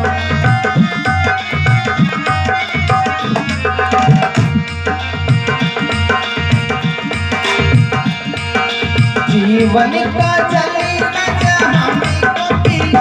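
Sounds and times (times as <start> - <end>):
dholak drum rhythm: 0.0 - 13.0
keyboard melody: 0.0 - 13.0.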